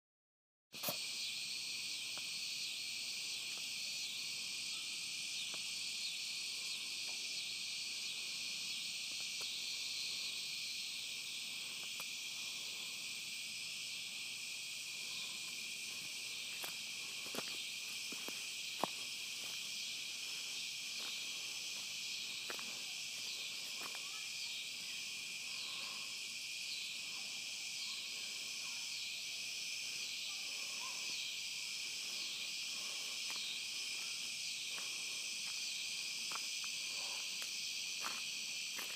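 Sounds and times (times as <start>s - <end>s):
insects chirping chorus: 0.8s - 38.9s.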